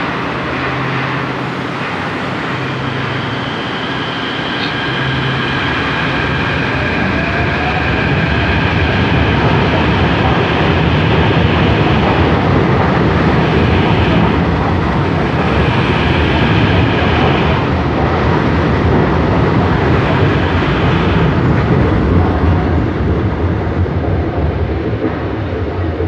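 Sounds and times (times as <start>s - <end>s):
metro train rolling on rails: 0.0s - 26.0s.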